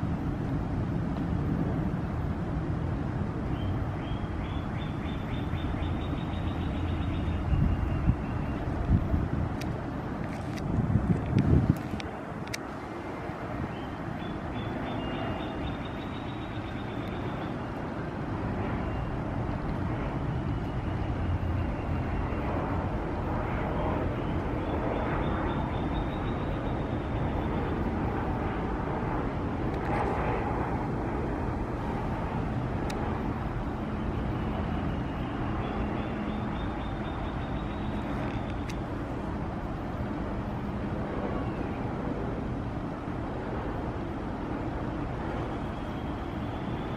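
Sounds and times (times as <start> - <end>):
outdoor background rumble and hiss: 0.0 - 46.9.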